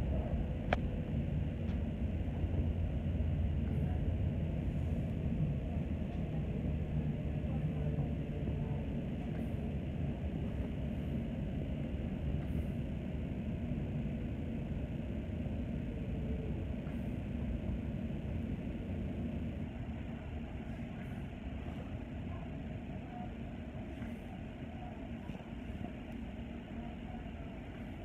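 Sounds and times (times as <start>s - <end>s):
electric train rumbling along track: 0.0s - 28.0s.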